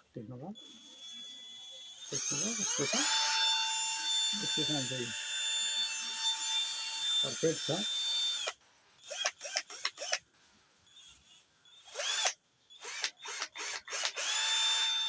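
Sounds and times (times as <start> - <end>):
cordless drill motor whining: 0.6 - 10.2, 10.9 - 15.0.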